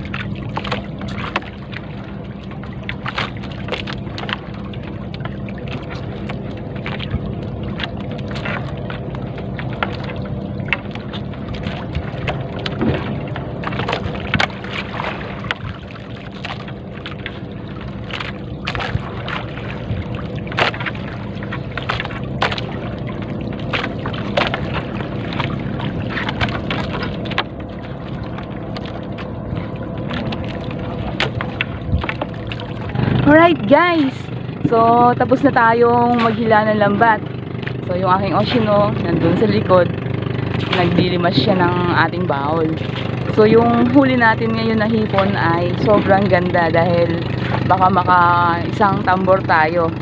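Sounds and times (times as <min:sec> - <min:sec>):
net clicking and knocking on boat: 0:00.0 - 0:35.1, 0:35.9 - 0:49.4
steady engine hum: 0:00.0 - 0:50.0.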